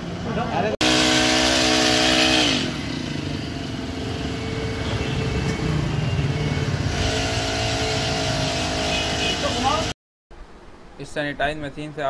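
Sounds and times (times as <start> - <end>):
small engine running: 0.0 - 9.9.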